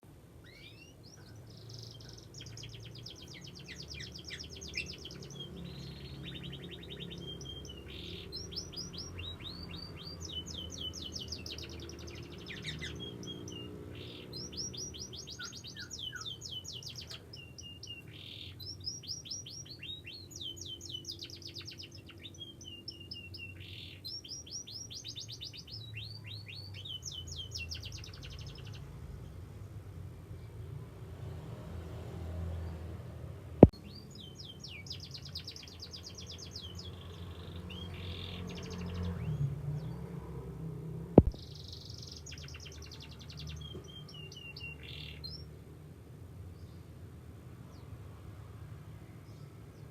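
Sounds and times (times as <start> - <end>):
canary singing trills: 0.3 - 29.5, 33.6 - 40.3, 41.2 - 45.6.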